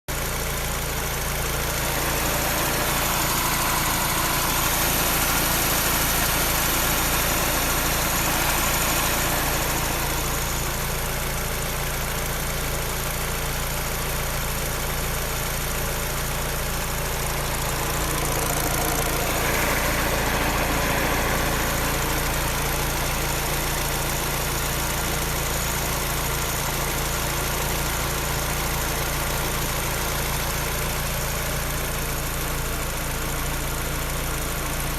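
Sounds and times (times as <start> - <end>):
car engine running: 0.1 - 34.9
engine clattering: 0.2 - 34.9.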